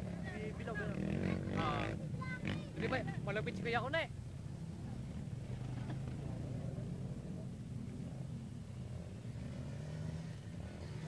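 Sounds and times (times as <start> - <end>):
quad bike engine droning: 0.0 - 11.0.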